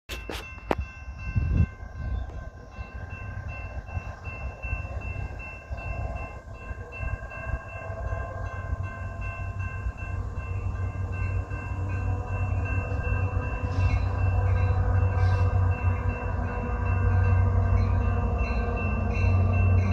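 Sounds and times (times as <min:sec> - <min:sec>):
diesel locomotive rumble: 0:00.1 - 0:19.9
steady high tones: 0:00.1 - 0:19.9.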